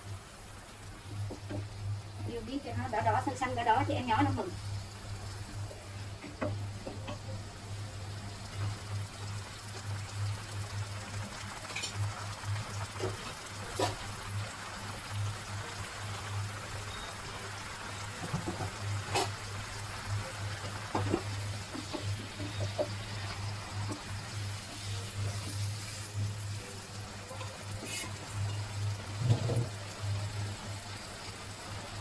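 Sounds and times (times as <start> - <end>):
sauce bubbling hiss: 3.2 - 32.0.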